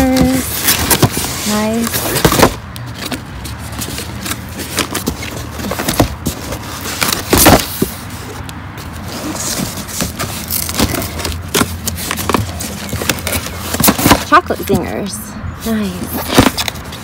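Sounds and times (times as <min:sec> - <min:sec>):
cardboard boxes scraping and rustling: 0:00.0 - 0:17.0.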